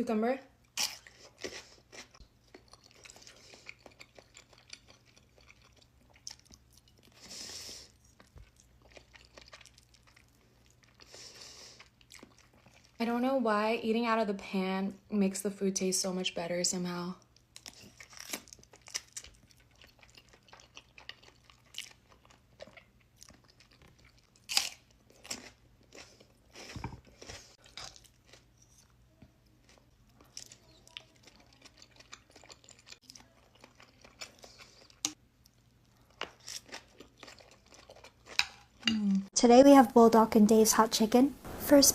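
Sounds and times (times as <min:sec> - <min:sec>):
person chewing crunchy food: 0:00.6 - 0:13.0, 0:17.3 - 0:38.9.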